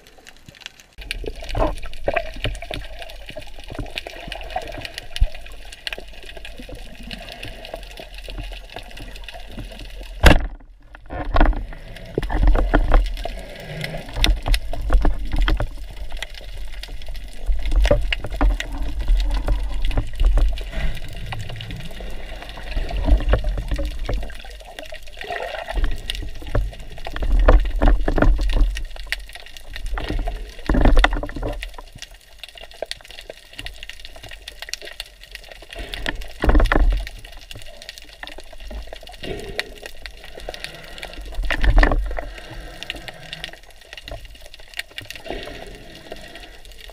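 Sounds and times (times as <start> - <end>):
water sloshing and gurgling: 0.0 - 46.9.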